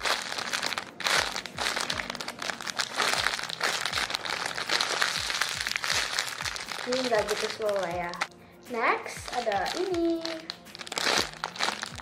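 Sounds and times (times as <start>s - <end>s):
plastic packaging crinkling: 0.0s - 8.3s, 9.1s - 12.0s.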